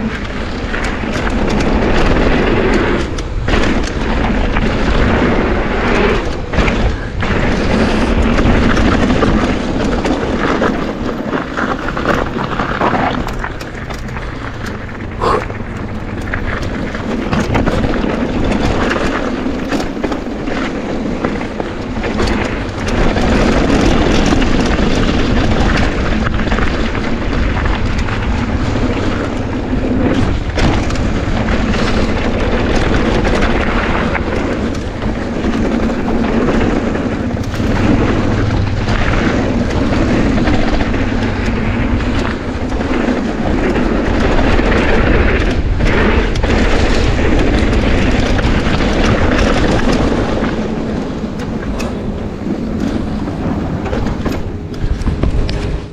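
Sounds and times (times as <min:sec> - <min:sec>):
bike rattling over bumps: 0:00.0 - 0:55.9
bike tyre noise: 0:00.0 - 0:55.9
wind rumble on microphone: 0:00.0 - 0:55.9.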